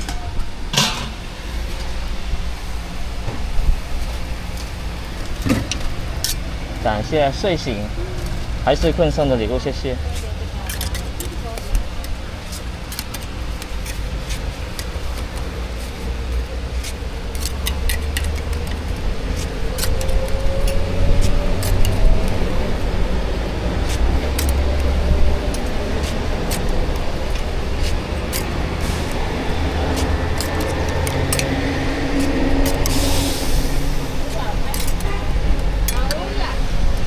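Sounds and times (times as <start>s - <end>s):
passing road traffic rumble: 0.0s - 37.0s.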